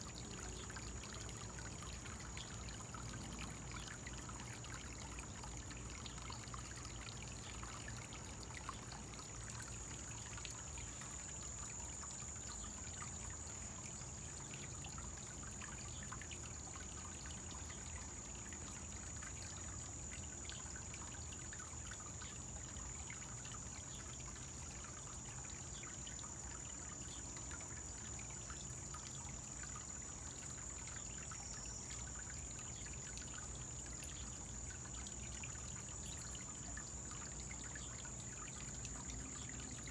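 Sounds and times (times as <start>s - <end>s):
small waterfall trickling and splashing: 0.0s - 39.9s.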